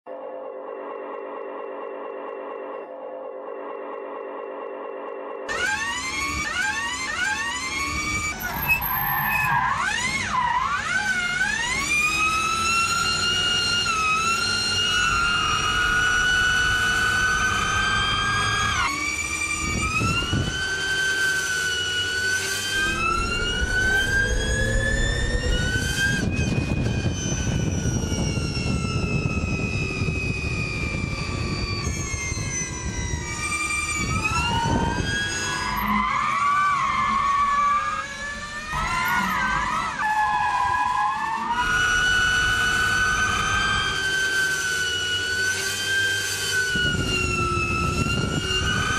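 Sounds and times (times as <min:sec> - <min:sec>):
electric motor whine: 0:00.1 - 0:48.9.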